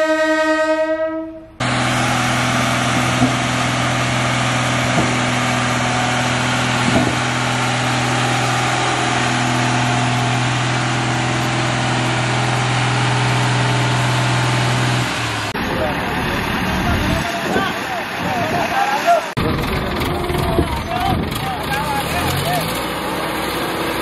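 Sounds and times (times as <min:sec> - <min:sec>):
road roller diesel engine: 0:00.0 - 0:24.0.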